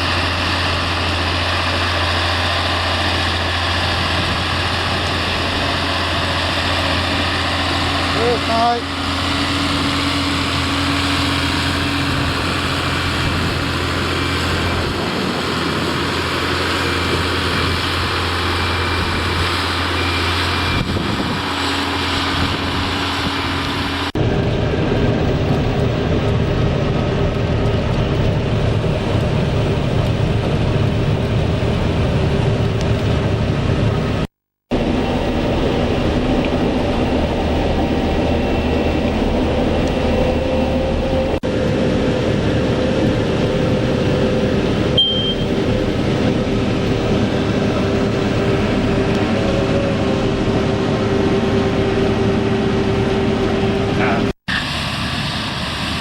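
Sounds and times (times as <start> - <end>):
heavy engine running: 0.0 - 56.0
tractor engine running: 0.0 - 56.0.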